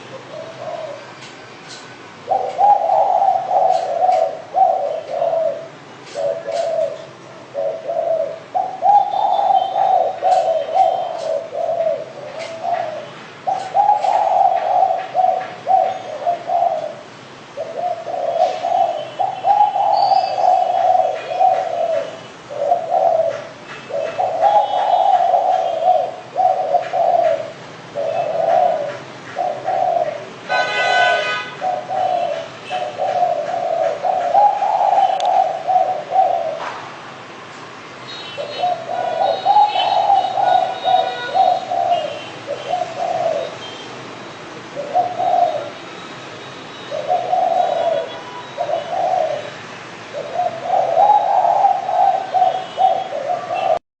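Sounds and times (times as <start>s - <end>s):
dove cooing: 0.0s - 36.9s, 38.1s - 43.9s, 44.7s - 45.8s, 46.8s - 53.8s.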